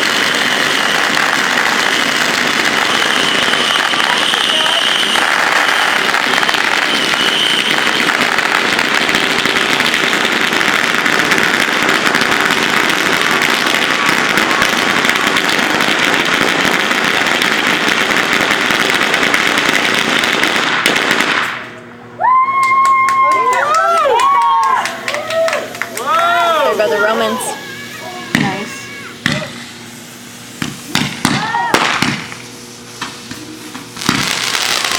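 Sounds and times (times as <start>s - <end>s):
firecrackers popping: 0.0s - 21.8s, 22.6s - 34.9s.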